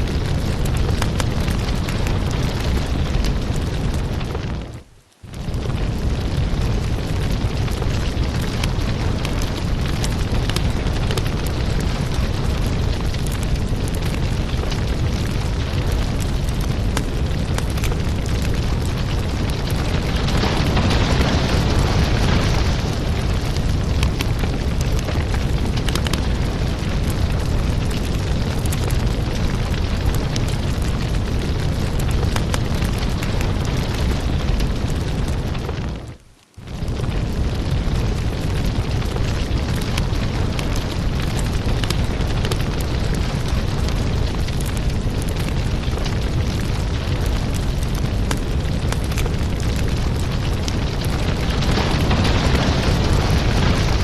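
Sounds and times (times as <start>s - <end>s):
logs crackling and popping: 0.0s - 54.0s
low rumble of flame: 0.0s - 54.0s.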